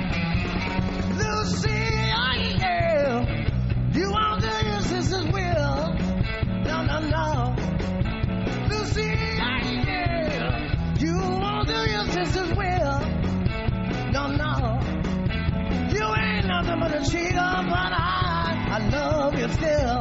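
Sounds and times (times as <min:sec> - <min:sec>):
bending lead guitar line: 0:00.0 - 0:20.0
blues-rock band playing live: 0:00.0 - 0:20.0.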